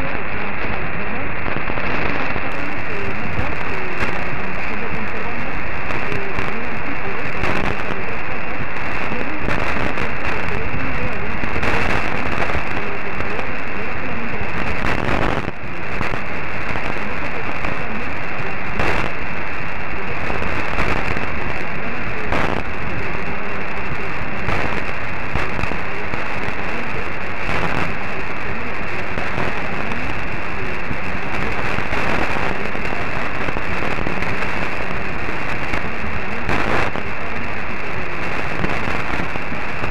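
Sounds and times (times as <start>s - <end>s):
faint radio voice: 0.0s - 39.9s
radio static hiss: 0.0s - 39.9s
sharp static crashes: 0.0s - 39.9s.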